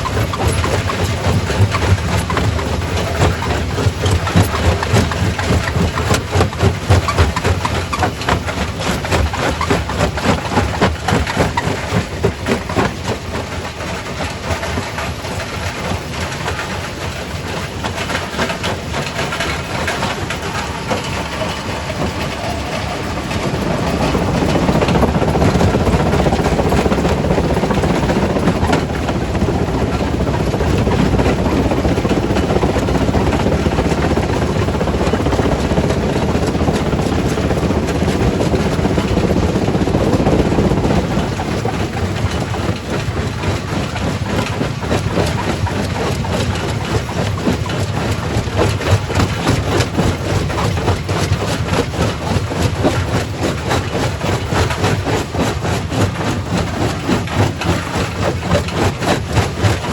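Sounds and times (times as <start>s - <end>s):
rock crusher grinding rumble: 0.0s - 59.9s.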